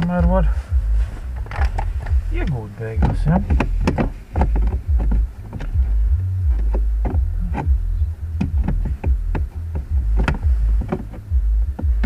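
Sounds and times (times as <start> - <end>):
wind buffeting microphone: 0.0 - 12.0
short knocks: 1.4 - 12.0.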